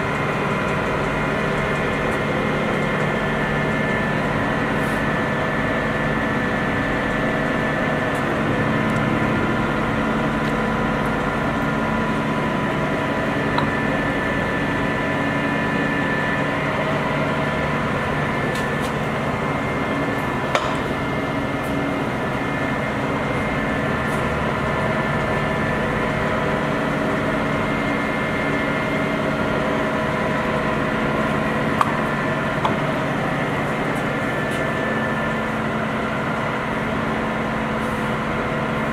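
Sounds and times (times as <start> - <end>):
lathe humming and whining: 0.0 - 38.9.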